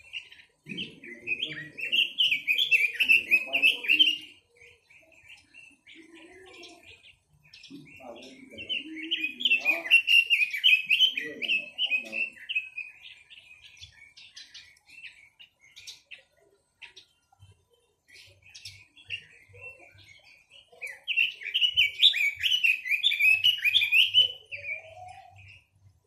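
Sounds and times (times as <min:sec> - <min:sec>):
songbird chirping and whistling: 0:00.0 - 0:26.0.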